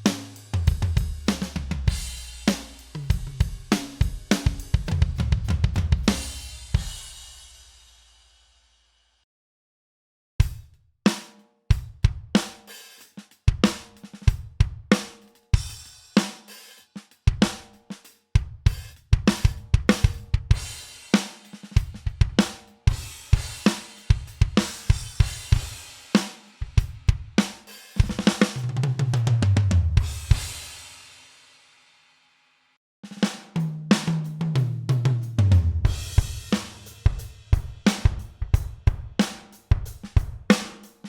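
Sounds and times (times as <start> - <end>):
drum kit groove: 0.0 - 8.4, 10.4 - 31.4, 33.0 - 41.0.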